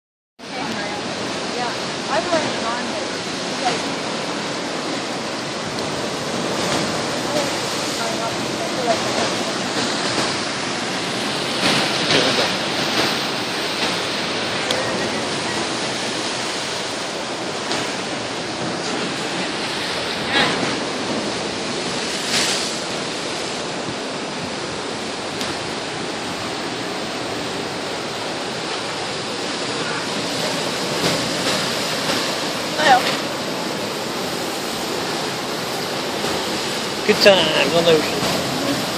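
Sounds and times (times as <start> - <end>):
ocean surf breaking on rocks: 0.4 - 38.9.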